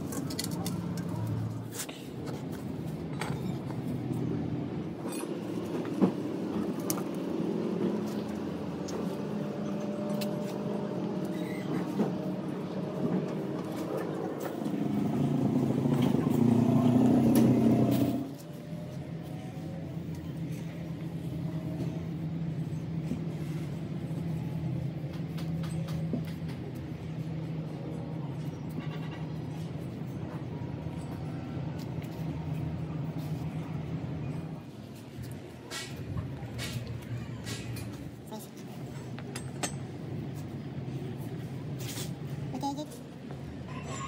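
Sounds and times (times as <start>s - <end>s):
engine running: 0.0s - 43.6s.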